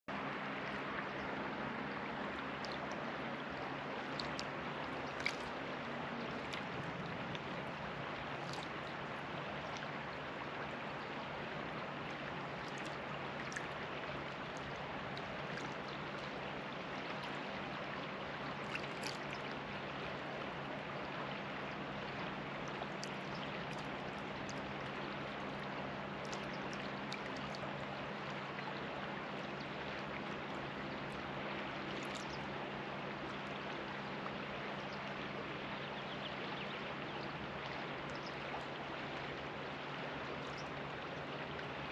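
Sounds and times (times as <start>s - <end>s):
river flowing over pebbles: 0.1s - 41.9s.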